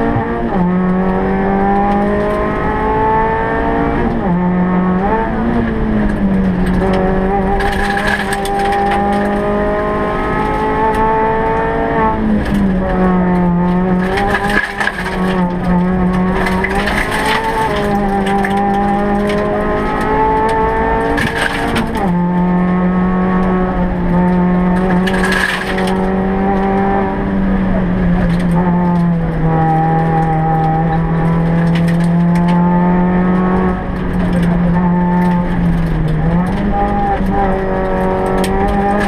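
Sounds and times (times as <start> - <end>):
rally car engine revving: 0.0 - 39.0.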